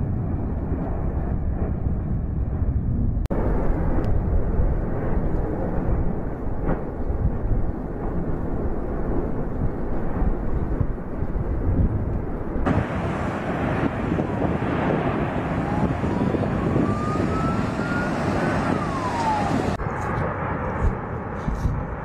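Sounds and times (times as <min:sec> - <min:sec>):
volcanic eruption roaring: 0:00.0 - 0:22.0.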